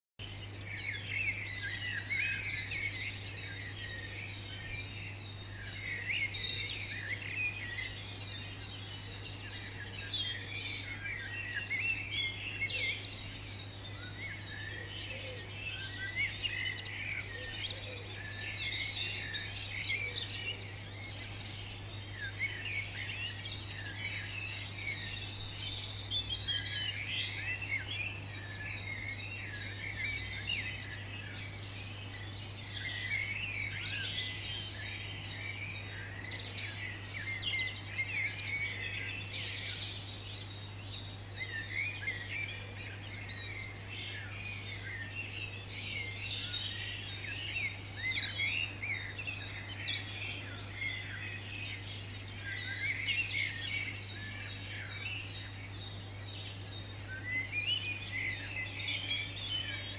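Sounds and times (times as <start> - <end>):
songbirds chirping and trilling: 0.2 - 59.9.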